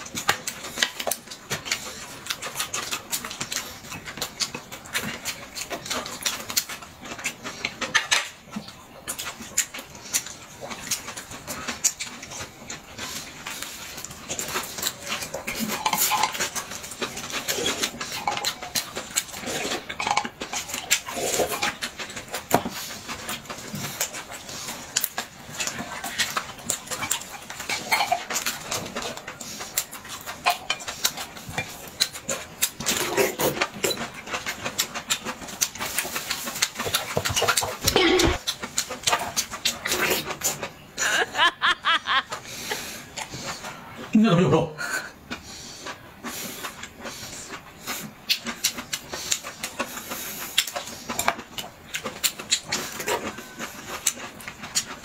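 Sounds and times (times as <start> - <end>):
chewing: 0.0 - 44.1, 44.9 - 55.0.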